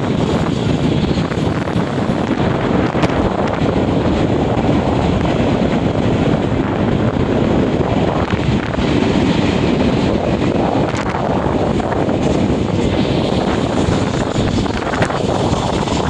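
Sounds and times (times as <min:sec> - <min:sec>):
train rumbling past: 0:00.0 - 0:16.0
wind buffeting microphone: 0:00.0 - 0:16.0.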